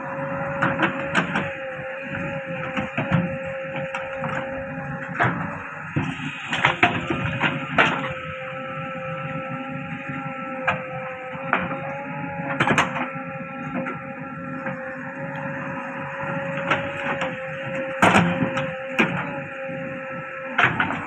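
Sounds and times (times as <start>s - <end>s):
backhoe loader whine: 0.0s - 21.0s.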